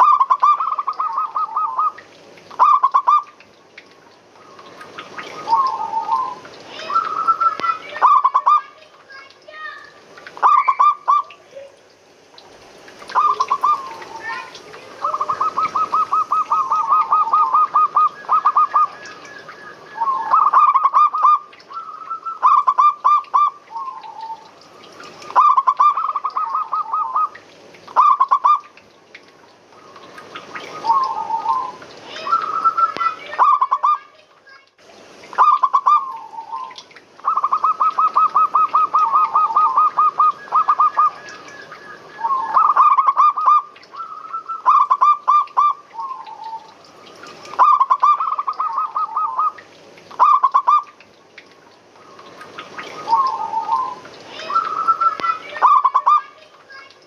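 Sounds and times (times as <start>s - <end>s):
doves cooing: 0.0s - 3.3s, 4.4s - 8.7s, 13.0s - 28.7s, 29.7s - 34.0s, 35.3s - 50.9s, 52.0s - 56.2s.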